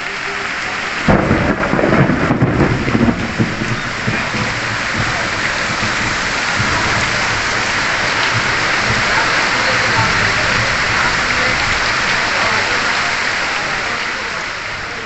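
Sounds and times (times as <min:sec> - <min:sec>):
torrential rain on street: 0:00.0 - 0:15.0.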